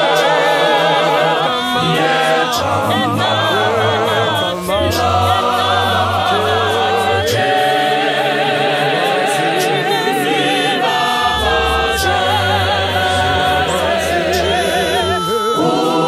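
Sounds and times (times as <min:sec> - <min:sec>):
choir singing a hymn in harmony: 0:00.0 - 0:16.0.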